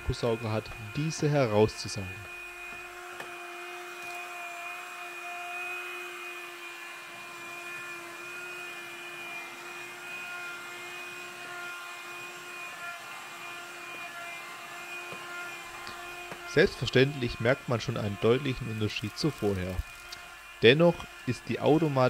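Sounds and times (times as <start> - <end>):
handheld vacuum running: 0.0 - 22.0.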